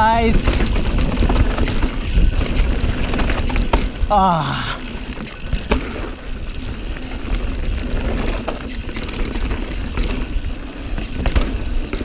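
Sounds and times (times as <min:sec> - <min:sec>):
bike rattling and knocking: 0:00.0 - 0:12.0
bike tyres on dirt: 0:00.0 - 0:12.0
wind rumbling on microphone: 0:00.0 - 0:12.0.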